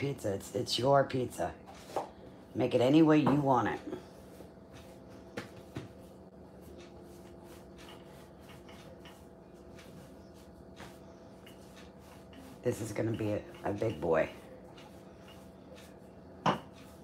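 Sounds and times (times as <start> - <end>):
rolling pin rubbing dough: 0.0 - 17.0.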